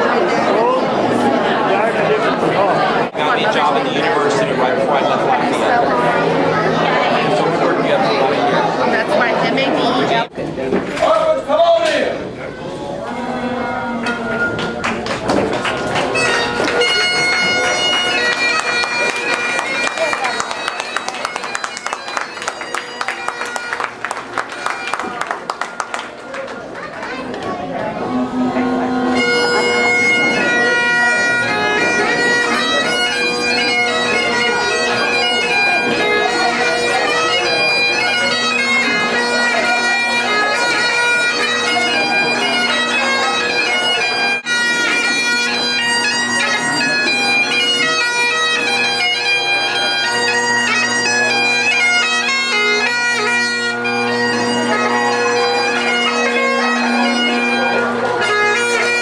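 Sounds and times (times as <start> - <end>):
bagpipes playing a melody: 0.0 - 10.3, 15.3 - 25.6, 27.9 - 59.0.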